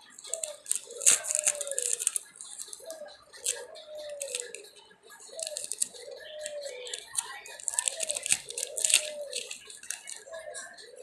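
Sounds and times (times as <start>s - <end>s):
baby bird feeding clicks: 0.0s - 11.0s.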